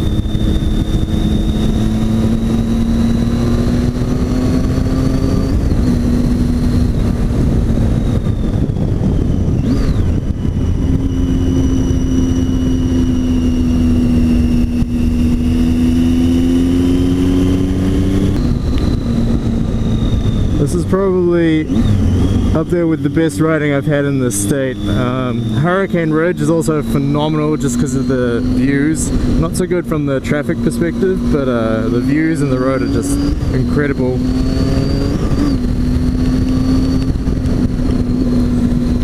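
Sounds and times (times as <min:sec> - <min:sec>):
motorcycle engine pulling: 0:00.0 - 0:39.0
wind rumble: 0:00.0 - 0:39.0.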